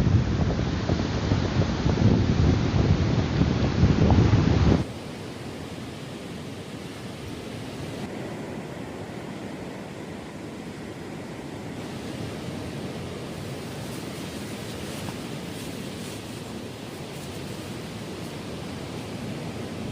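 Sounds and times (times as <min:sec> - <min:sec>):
surf on a beach: 0:00.0 - 0:19.9
wind: 0:00.0 - 0:19.9.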